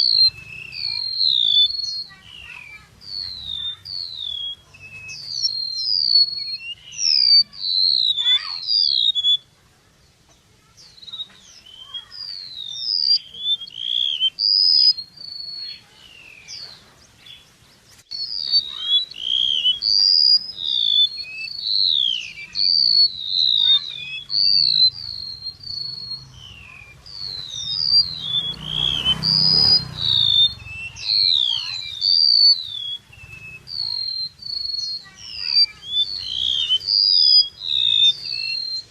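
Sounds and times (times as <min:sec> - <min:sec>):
songbird singing chirps and whistles: 0:00.0 - 0:38.9.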